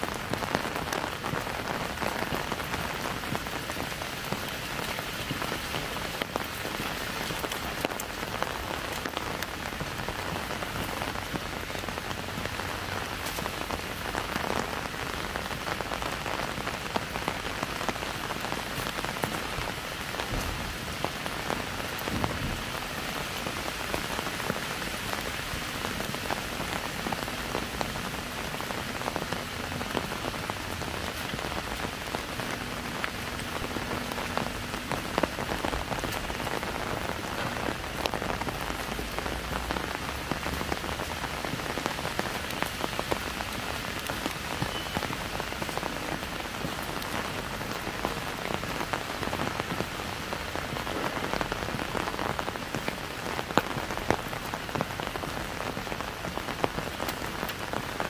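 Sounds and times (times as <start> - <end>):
rain hissing on wet pavement: 0.0 - 58.0
raindrops pattering on an umbrella: 0.0 - 58.0.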